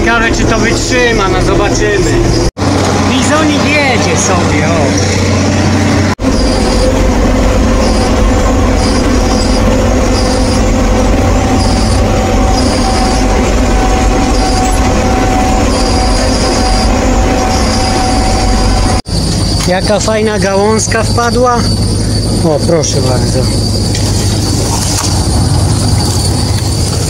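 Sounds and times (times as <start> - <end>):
high squeal: 0.0 - 2.5, 3.2 - 27.0
combine harvester engine running: 0.0 - 27.0.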